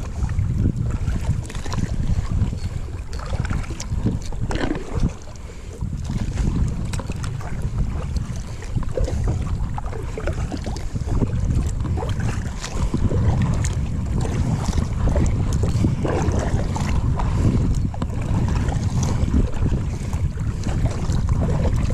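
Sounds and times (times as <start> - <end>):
water lapping at a kayak: 0.0 - 21.9
wind rumbling on microphone: 0.0 - 21.9.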